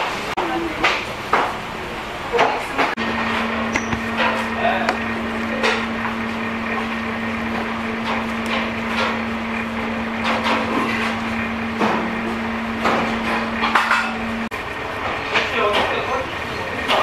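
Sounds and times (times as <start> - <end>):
steady hum: 1.1 - 15.1.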